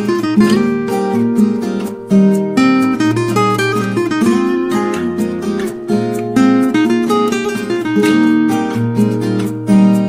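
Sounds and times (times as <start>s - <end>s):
acoustic guitar melody: 0.0s - 10.0s.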